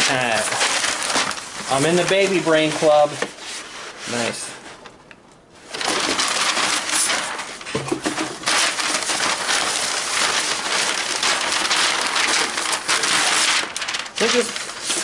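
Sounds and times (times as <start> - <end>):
paper rustling and crinkling: 0.0 - 4.8, 5.6 - 15.0.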